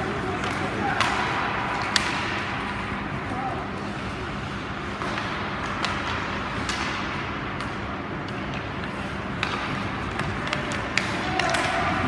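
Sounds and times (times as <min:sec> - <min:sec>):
hockey sticks and puck clacking: 0:00.0 - 0:12.0
skating and hall noise: 0:00.0 - 0:12.0.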